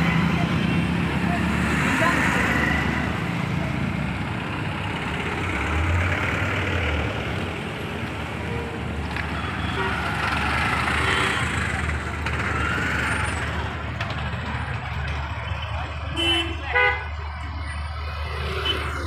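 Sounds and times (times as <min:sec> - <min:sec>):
car engines passing: 0:00.0 - 0:19.0
street din: 0:00.0 - 0:19.0.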